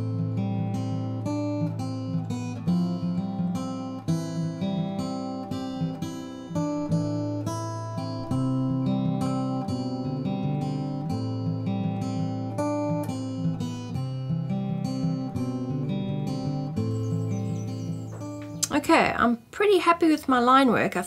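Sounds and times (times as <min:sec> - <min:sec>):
acoustic guitar chords: 0:00.0 - 0:19.3.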